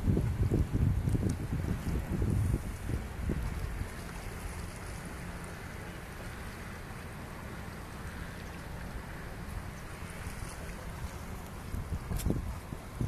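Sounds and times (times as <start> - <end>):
sea water rushing: 0.0 - 13.0.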